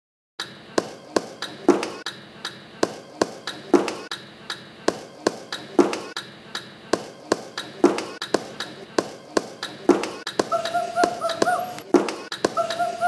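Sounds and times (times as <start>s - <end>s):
rhythmic taps and knocks: 0.4s - 13.0s.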